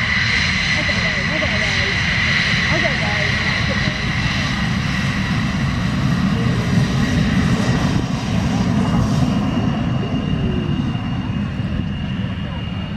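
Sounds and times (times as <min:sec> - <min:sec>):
aircraft engine: 0:00.0 - 0:12.9.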